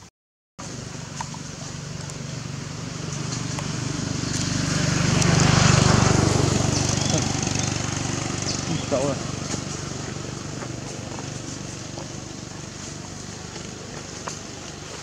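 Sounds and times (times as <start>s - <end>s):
vehicle engine passing by: 0.6s - 15.0s.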